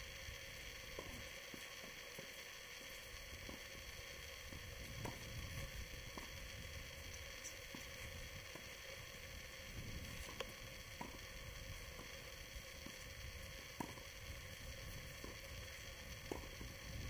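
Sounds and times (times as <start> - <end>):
microphone hiss: 0.0 - 17.0.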